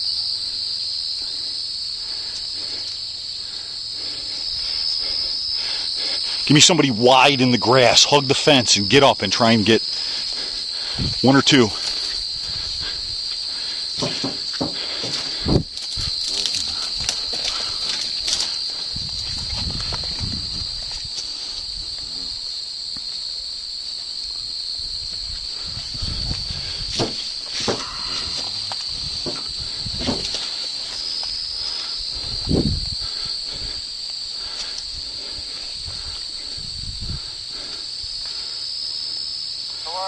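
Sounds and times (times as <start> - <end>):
crickets chirring: 0.0 - 40.0.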